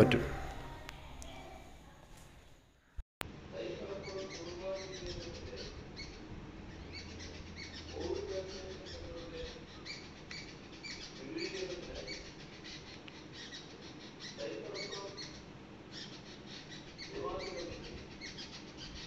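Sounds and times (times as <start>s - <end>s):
small birds chirping: 3.6s - 19.0s.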